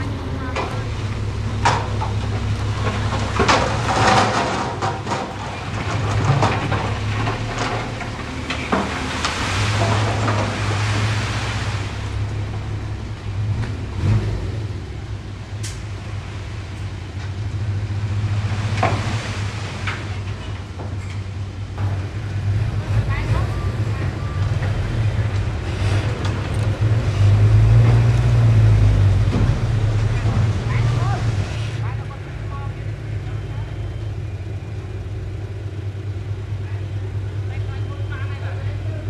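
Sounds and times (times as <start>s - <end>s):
knocks and crackly clatter: 0.0s - 14.4s, 15.4s - 38.4s
diesel engine running: 0.0s - 39.0s.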